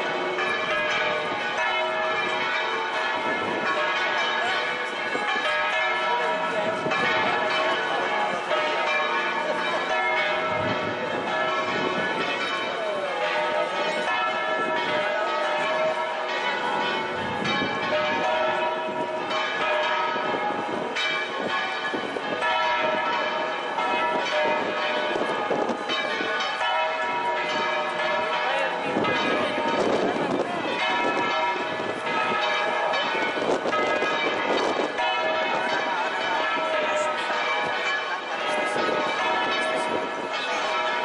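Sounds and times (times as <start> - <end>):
church bells ringing: 0.0 - 41.0
murmur of large crowd: 0.0 - 41.0.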